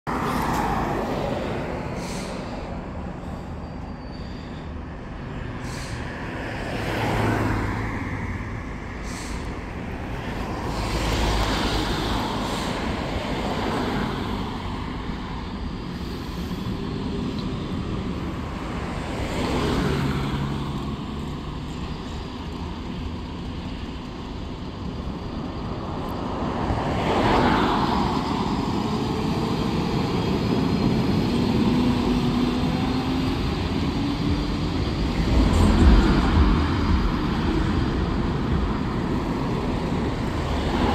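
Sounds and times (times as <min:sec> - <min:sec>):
fire engine diesel engine: 0:00.0 - 0:40.9
vehicles passing: 0:00.0 - 0:40.9.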